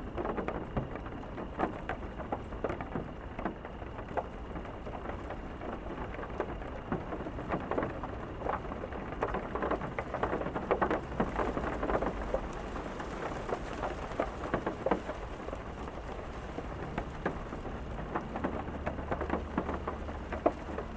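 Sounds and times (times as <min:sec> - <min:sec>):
heavy raindrops on hard surface: 0:00.0 - 0:20.9.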